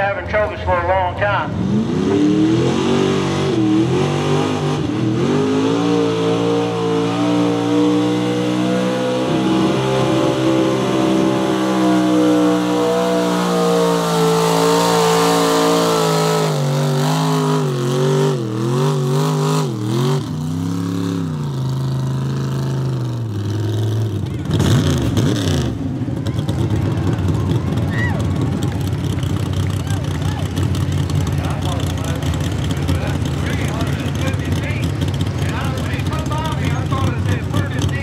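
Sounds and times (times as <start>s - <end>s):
truck engine running under load: 6.2s - 38.0s.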